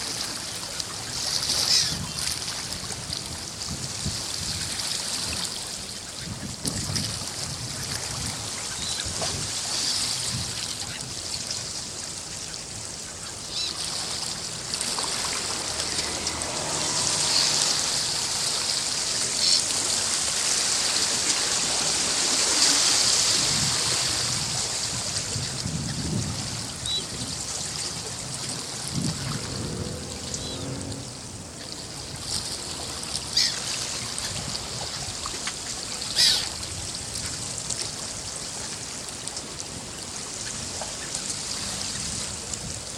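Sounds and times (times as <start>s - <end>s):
sea water washing over shore: 0.0s - 42.9s.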